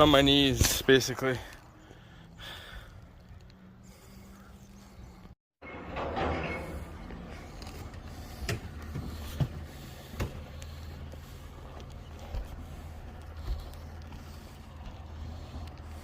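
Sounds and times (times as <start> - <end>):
low mechanical hum: 1.4 - 16.0.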